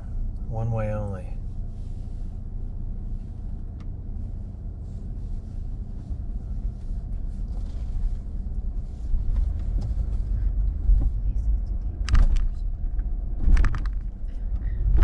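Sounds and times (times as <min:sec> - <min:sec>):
car rumble inside cabin: 0:00.0 - 0:15.0.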